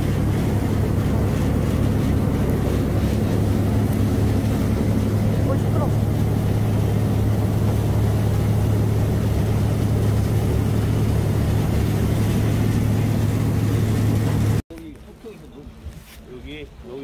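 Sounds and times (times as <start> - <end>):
boat engine droning: 0.0 - 17.0
water rushing along hull: 0.0 - 17.0.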